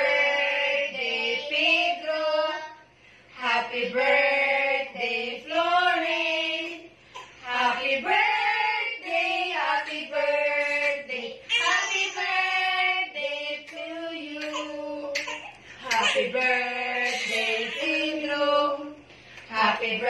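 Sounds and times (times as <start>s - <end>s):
women and girl singing together: 0.0s - 20.0s.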